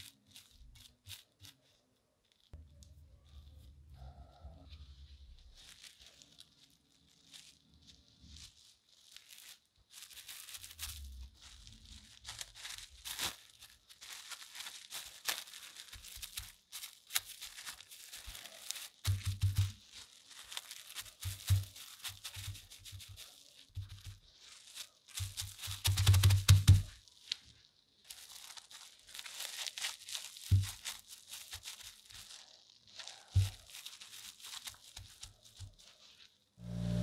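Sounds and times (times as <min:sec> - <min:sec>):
plastic wrap crinkling: 0:00.0 - 0:37.0.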